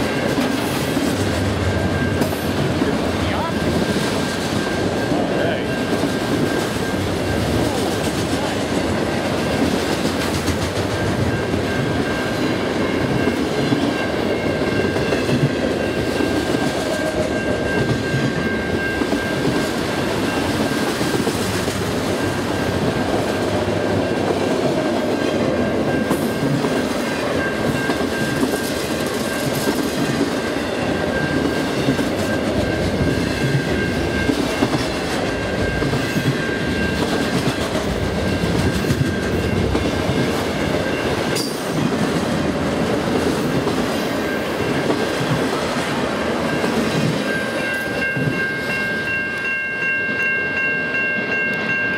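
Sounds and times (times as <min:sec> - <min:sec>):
train wheels rumbling and clattering: 0:00.0 - 0:49.5.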